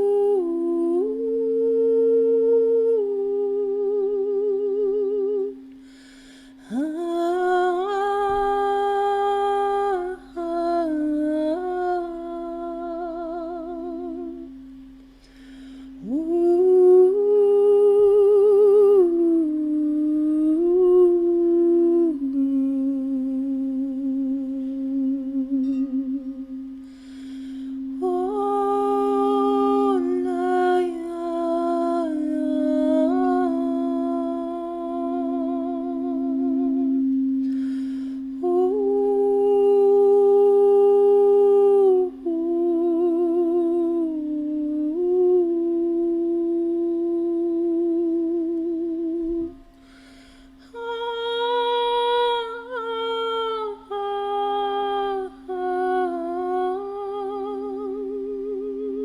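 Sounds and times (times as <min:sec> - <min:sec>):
low drone tone: 0:00.0 - 0:59.0.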